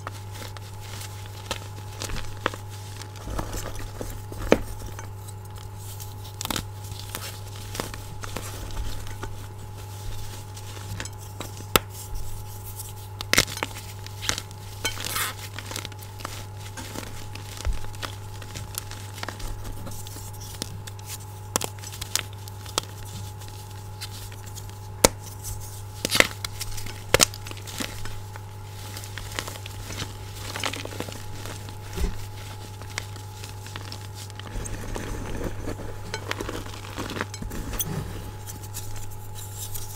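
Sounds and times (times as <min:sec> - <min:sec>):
chalk crunching in a glass bowl: 0:00.0 - 0:39.9.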